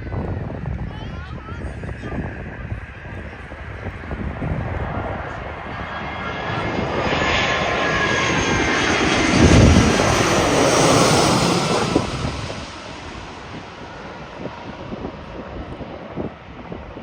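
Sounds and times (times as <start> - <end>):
jet airliner passing overhead: 0.0 - 17.0.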